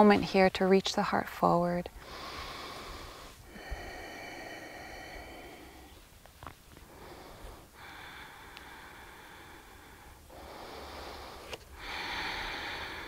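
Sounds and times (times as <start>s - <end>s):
woman breathing slowly: 2.0s - 13.0s.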